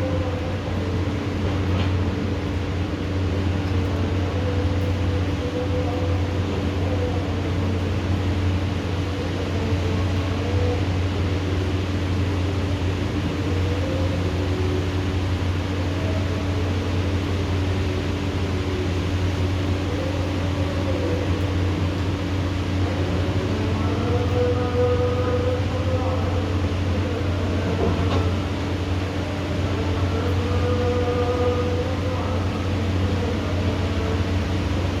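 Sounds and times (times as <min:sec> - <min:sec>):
low mechanical hum: 0:00.0 - 0:35.0
steady rain: 0:00.0 - 0:35.0.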